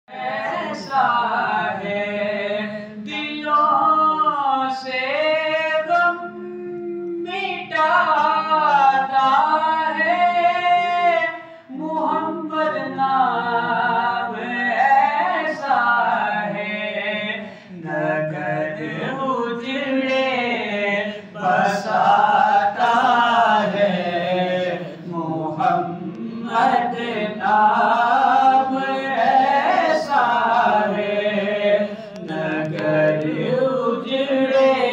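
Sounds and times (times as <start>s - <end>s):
man singing unaccompanied: 0.2s - 34.9s.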